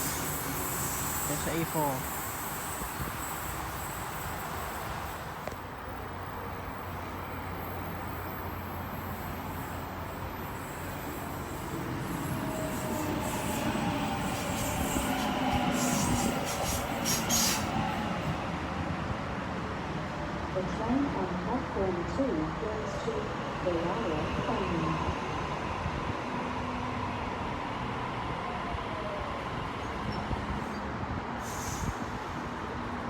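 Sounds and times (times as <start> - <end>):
electric train rumble: 0.0 - 33.0.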